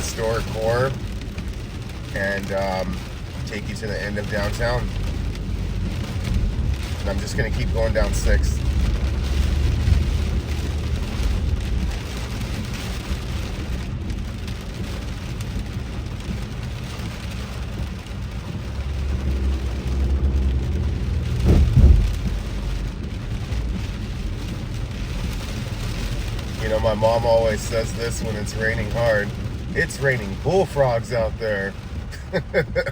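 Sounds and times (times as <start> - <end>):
car driving on wet road: 0.0 - 32.9
heavy rain on a car: 0.0 - 32.9.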